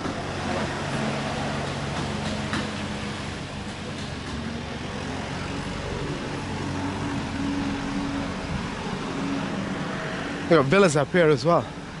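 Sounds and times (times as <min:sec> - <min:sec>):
traffic noise: 0:00.0 - 0:12.0
vehicle engine humming: 0:00.0 - 0:12.0.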